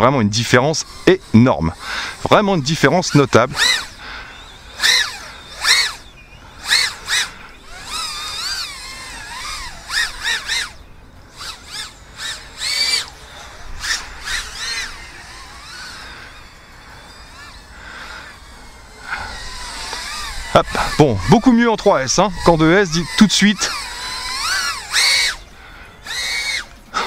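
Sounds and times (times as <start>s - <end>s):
frame vibration: 0.0s - 27.0s
quadcopter motors whining: 0.0s - 27.0s.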